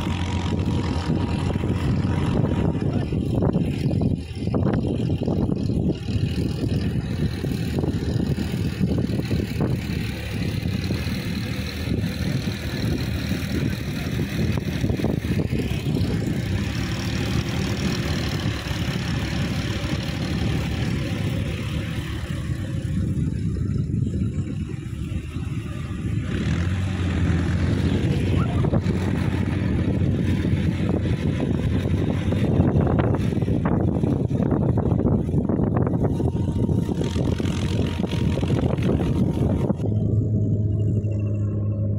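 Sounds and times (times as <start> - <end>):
tractor engine running under load: 0.0 - 41.9.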